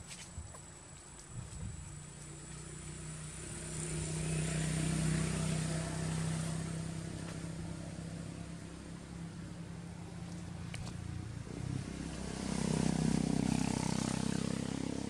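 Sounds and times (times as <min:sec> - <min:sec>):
passing vehicle engine hum: 0:00.5 - 0:15.0.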